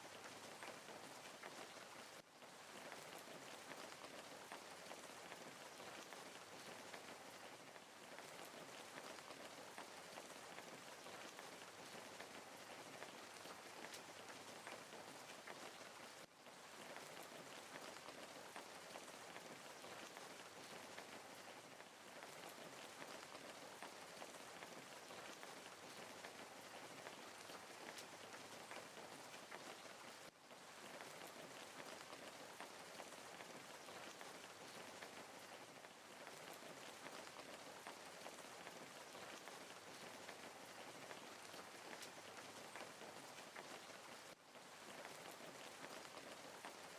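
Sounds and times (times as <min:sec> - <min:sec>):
wood fire crackling: 0:00.1 - 0:46.9.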